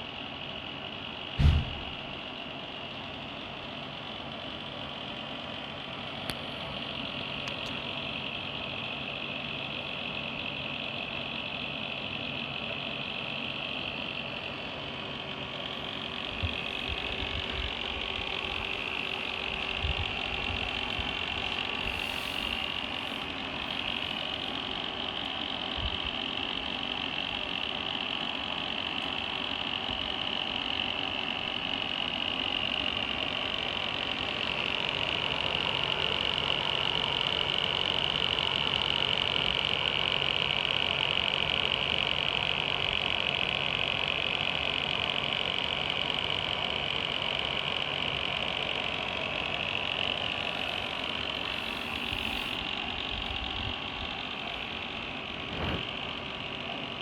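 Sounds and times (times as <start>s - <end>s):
power supply fan running: 0.0s - 57.0s.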